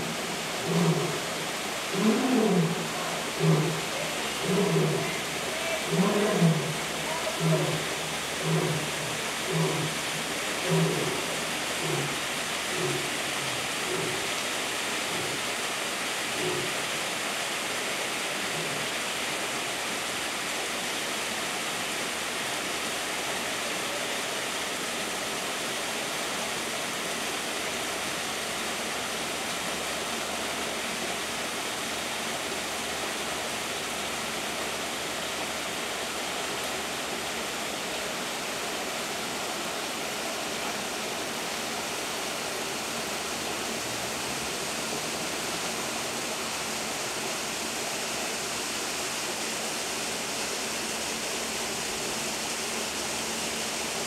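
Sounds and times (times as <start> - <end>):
waterfall splashing into a pool: 0.0 - 54.0.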